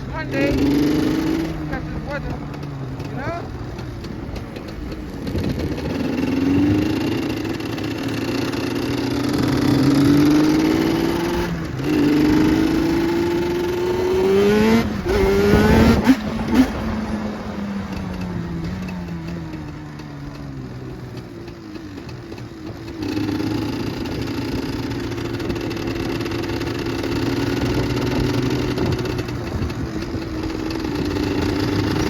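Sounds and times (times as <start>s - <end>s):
two-stroke engine revving: 0.0s - 32.0s.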